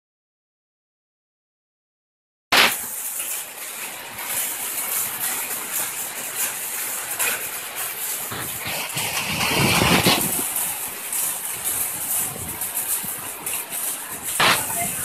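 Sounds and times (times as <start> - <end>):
heavy rain pouring: 2.5 - 15.0.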